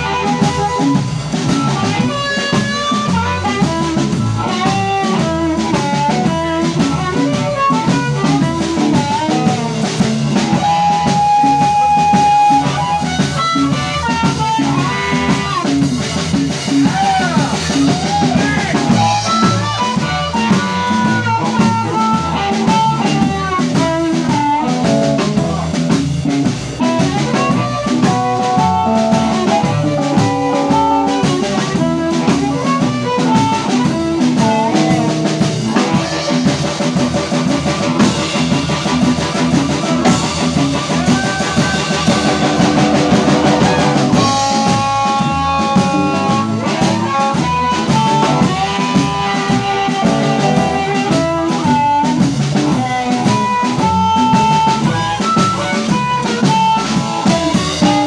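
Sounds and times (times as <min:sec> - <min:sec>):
harmonica melody with bending notes: 0:00.0 - 0:25.8, 0:26.7 - 0:58.0
drum kit: 0:00.0 - 0:58.0
electric guitar: 0:00.0 - 0:58.0.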